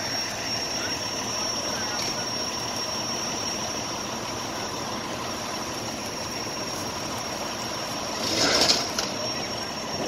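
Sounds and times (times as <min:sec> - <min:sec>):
fire engine running: 0:00.0 - 0:10.0
thin high whine: 0:00.0 - 0:10.0.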